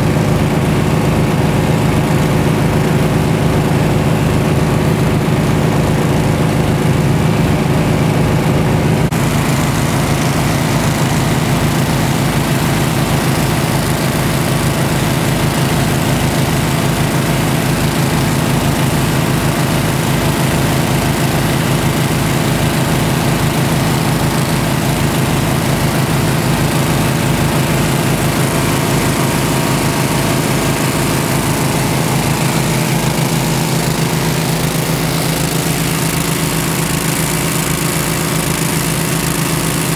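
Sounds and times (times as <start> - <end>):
dredge engine throbbing: 0.0 - 39.9.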